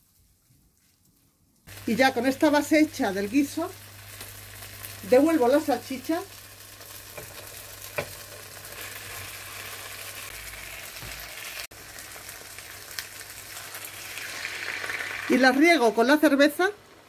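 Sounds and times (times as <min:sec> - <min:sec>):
sausages sizzling in a frying pan: 0:01.7 - 0:17.0.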